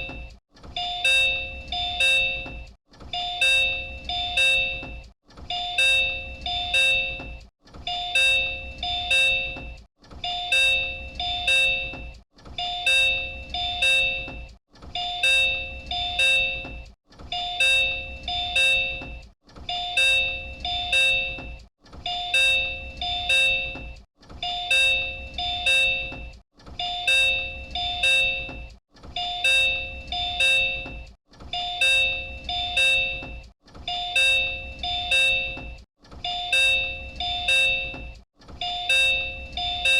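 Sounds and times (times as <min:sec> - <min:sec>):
two-note train door chime: 0:00.0 - 0:39.9.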